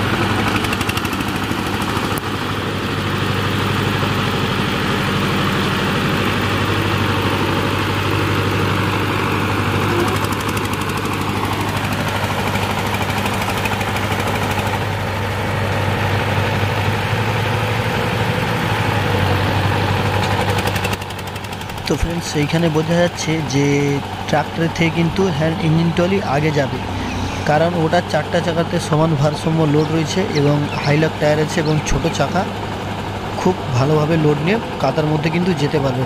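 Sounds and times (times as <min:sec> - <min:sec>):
engines chugging with rapid knock: 0:00.0 - 0:36.0.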